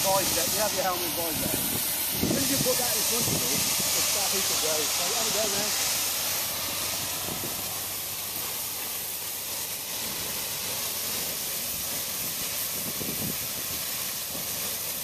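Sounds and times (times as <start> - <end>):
fire hose water spray hissing: 0.0 - 15.0.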